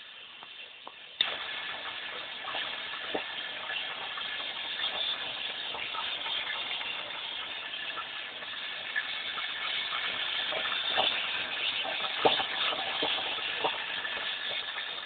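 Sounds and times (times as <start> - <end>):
popcorn machine hissing and crackling: 0.0 - 15.0.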